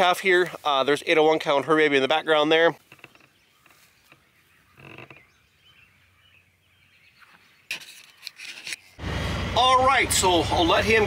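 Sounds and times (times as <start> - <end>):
pasture ambience: 0.0 - 11.0.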